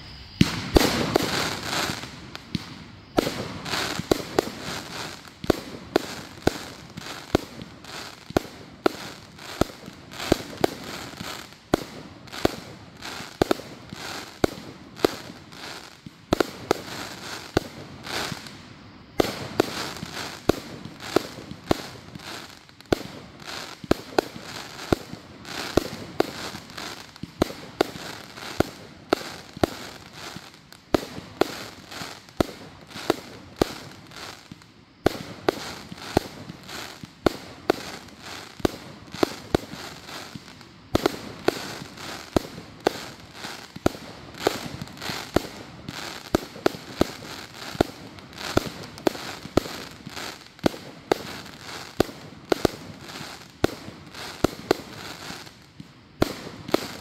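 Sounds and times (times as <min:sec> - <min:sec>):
firework hiss: 0:00.0 - 0:57.0.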